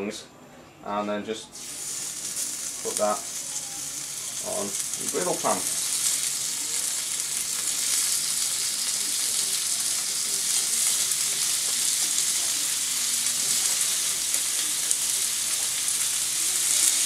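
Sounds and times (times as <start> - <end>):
chicken sizzling on griddle: 1.6 - 17.0.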